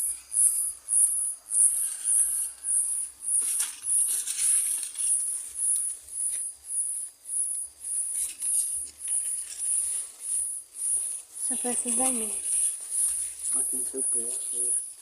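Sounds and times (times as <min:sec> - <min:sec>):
insect pulsing buzz: 0:00.0 - 0:15.0
plants rustling: 0:01.7 - 0:15.0.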